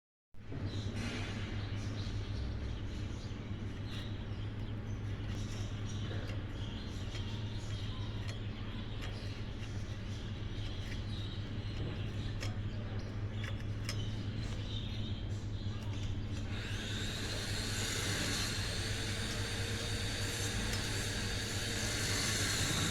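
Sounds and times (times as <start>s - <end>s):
arc welder humming and sizzling: 2.3s - 22.9s.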